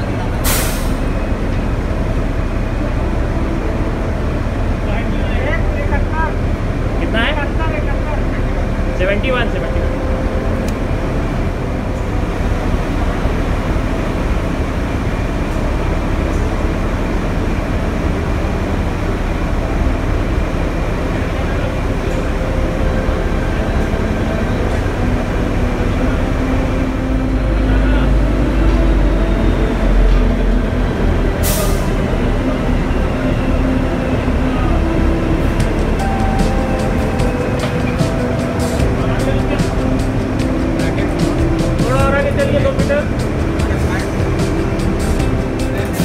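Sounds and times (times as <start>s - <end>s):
train rumbling in tunnel: 0.0s - 46.0s.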